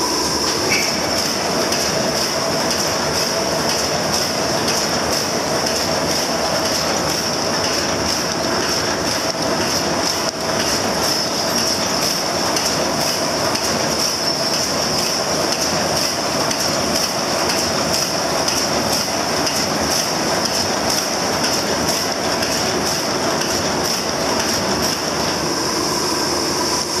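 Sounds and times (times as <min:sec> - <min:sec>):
rhythmic machine clatter: 0:00.0 - 0:25.9.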